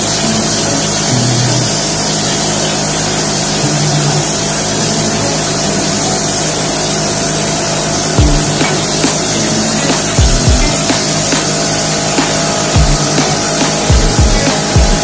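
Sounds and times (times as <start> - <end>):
spraying machine motor drone: 0.0 - 15.0.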